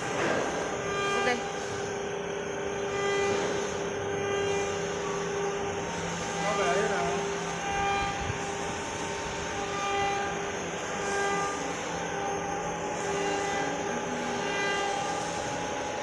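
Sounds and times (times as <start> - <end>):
cnc router motors whining: 0.0 - 16.0
steady machine hum: 0.0 - 16.0.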